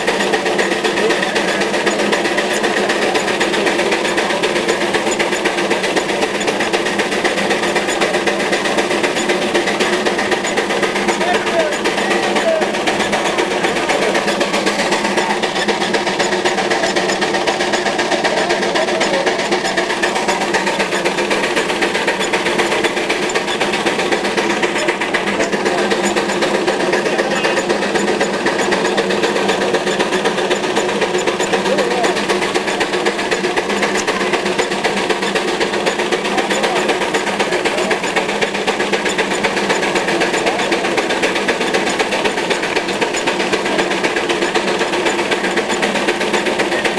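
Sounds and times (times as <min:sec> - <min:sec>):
lathe running with fast ticking: 0:00.0 - 0:46.9.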